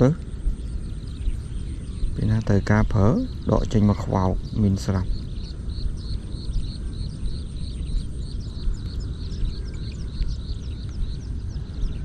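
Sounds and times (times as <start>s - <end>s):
bird chirping: 0.0s - 12.0s
low rumbling noise: 0.0s - 12.0s.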